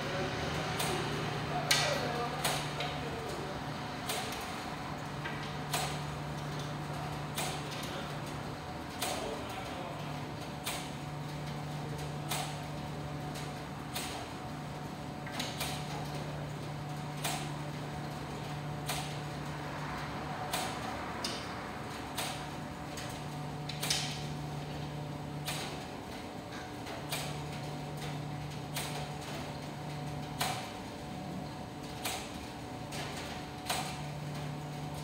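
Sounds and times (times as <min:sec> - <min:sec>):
tumble dryers humming: 0:00.0 - 0:35.0.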